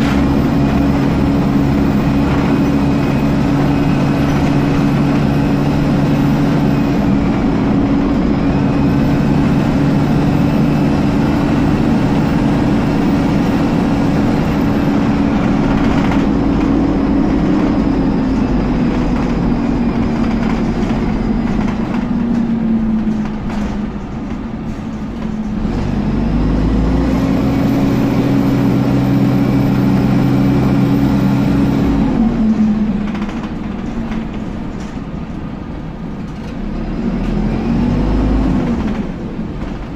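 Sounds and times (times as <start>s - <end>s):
bus engine running: 0.0s - 39.9s
engine cooling fan whining: 0.0s - 39.9s.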